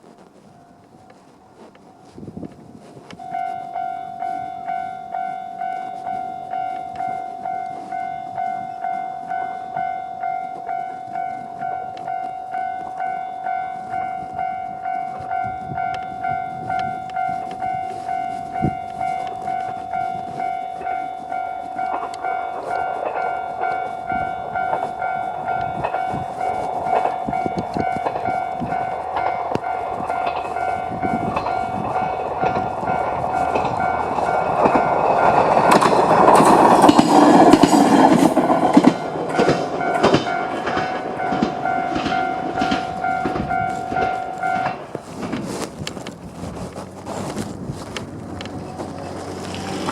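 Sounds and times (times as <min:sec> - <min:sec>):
level-crossing alarm ringing: 0:00.0 - 0:46.4
railcar rumble and wheel clatter: 0:00.0 - 0:49.9.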